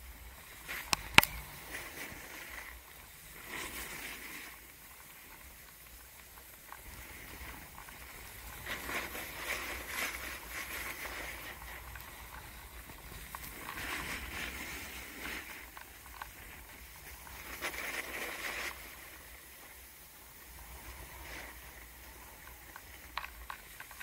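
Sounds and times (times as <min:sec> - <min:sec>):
snowboard scraping over snow: 0:00.0 - 0:24.0.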